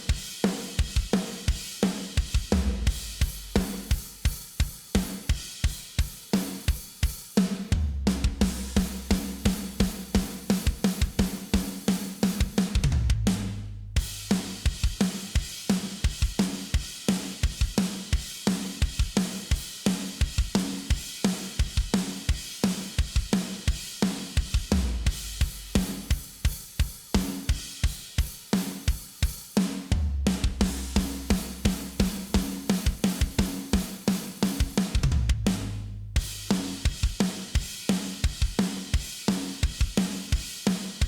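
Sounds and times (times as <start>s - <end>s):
rock drum kit fast beat: 0.0s - 41.0s.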